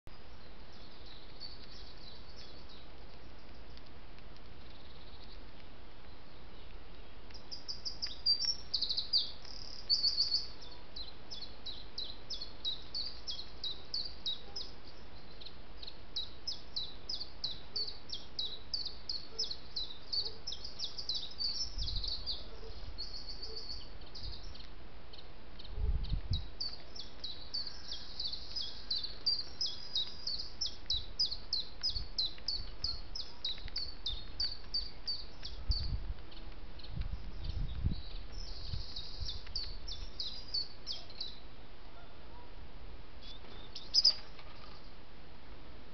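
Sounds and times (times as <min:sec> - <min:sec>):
songbirds chirping and trilling: 0:00.1 - 0:45.9.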